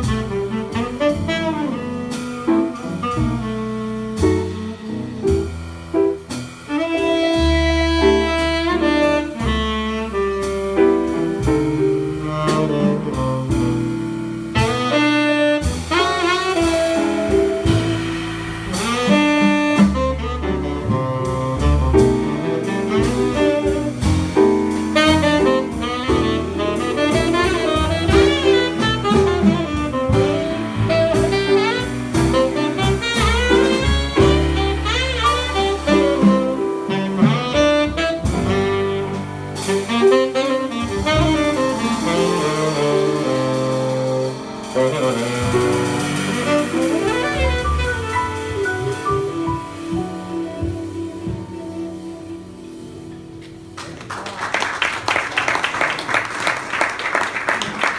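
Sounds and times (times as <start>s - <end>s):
double bass: 0.0s - 54.0s
drum kit: 0.0s - 57.9s
piano: 0.0s - 57.9s
tenor saxophone jazz line: 0.0s - 57.9s.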